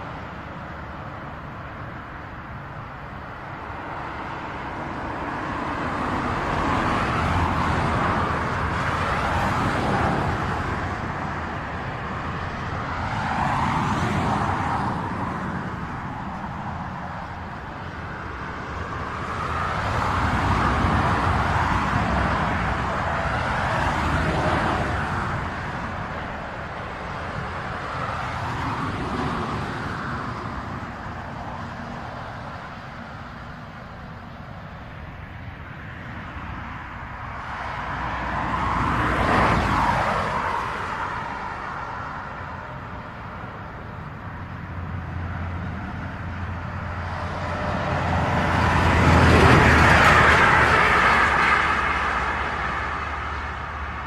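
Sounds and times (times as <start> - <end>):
cars passing on highway: 0.0 - 54.0.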